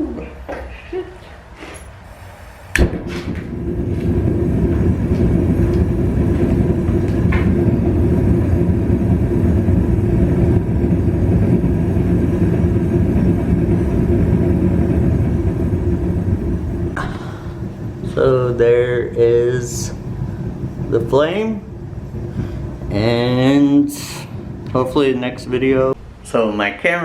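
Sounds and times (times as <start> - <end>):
faint steady hum: 0.0 - 27.0
gas burner roaring: 0.0 - 27.0.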